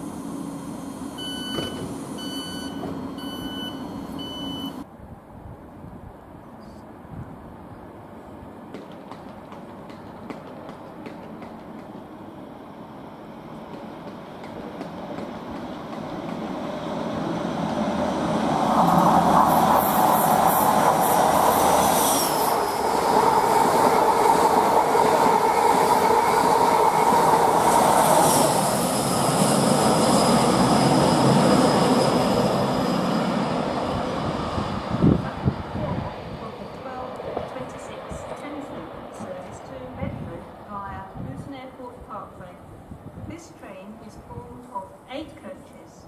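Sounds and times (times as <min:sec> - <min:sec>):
diesel train passing at speed: 0:00.0 - 0:46.0.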